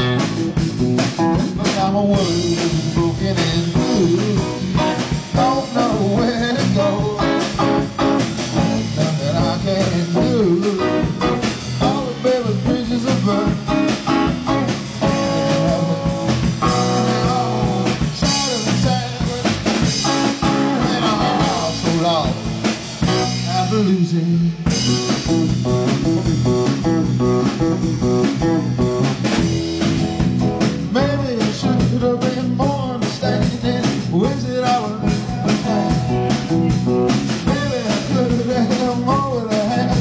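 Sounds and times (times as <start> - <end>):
electric guitars: 0.0 - 40.0
live blues-rock band: 0.0 - 40.0.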